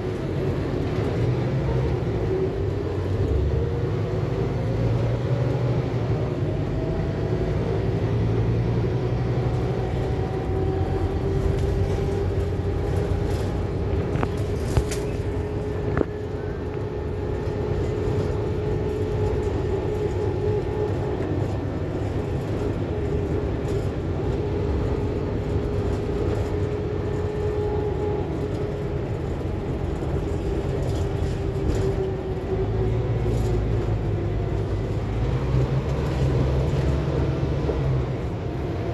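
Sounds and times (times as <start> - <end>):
bus engine rumble with whine: 0.0 - 38.9.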